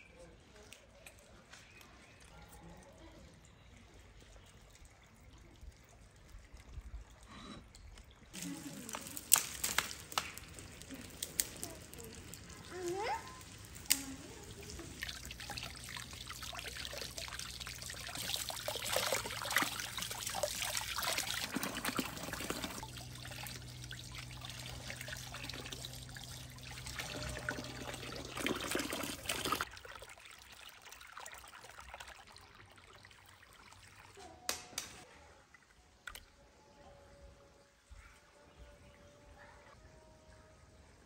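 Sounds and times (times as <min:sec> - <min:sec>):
water pouring and trickling: 0:00.7 - 0:34.4.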